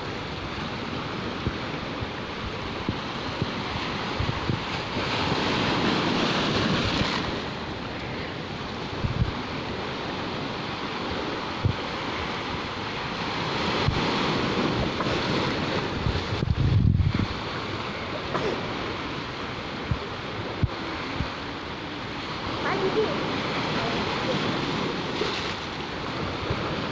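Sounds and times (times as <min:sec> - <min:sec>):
small waves washing over rocks: 0:00.0 - 0:19.6, 0:22.0 - 0:26.9
wind buffeting microphone: 0:00.0 - 0:26.9.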